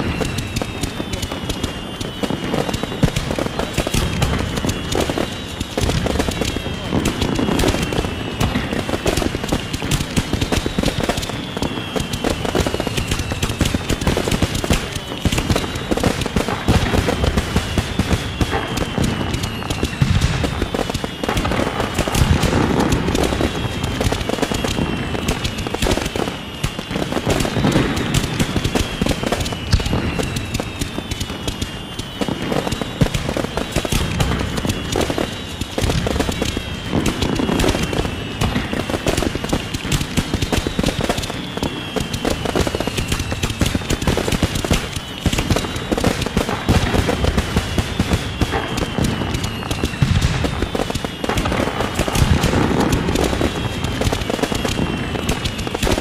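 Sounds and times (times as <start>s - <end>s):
fireworks crackling and banging: 0.0s - 56.0s
high falling firework whistle: 0.0s - 56.0s.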